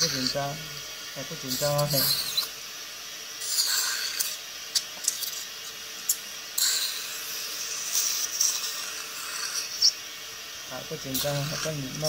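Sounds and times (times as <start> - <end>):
dental suction hissing and slurping: 0.0 - 12.0.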